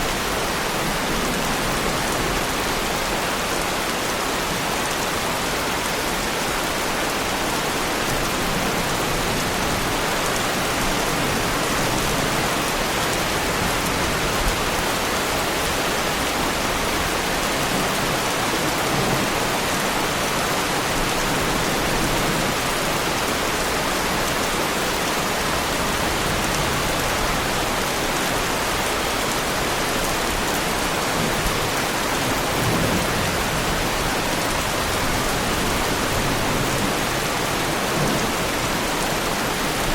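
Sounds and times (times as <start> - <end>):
heavy rain on car body: 0.1 - 39.9.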